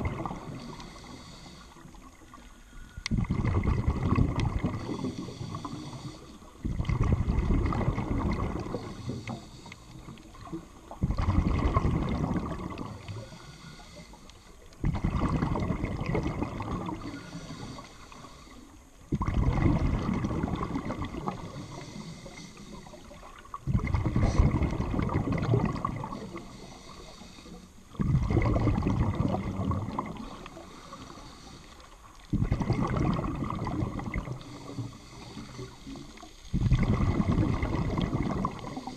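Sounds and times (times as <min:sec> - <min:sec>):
underwater exhaled bubbles: 0:00.0 - 0:38.9.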